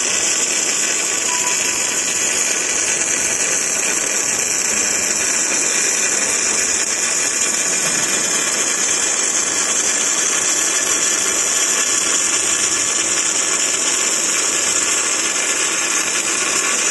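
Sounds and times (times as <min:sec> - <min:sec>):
welding arc hissing: 0:00.0 - 0:16.9.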